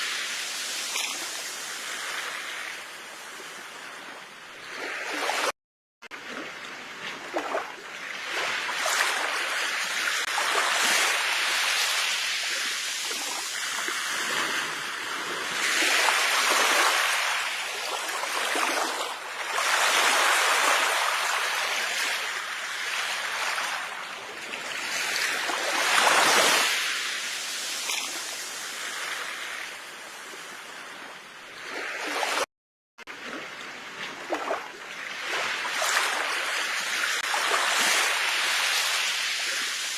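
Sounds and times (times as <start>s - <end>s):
ocean waves washing onto shore: 0.0s - 39.9s.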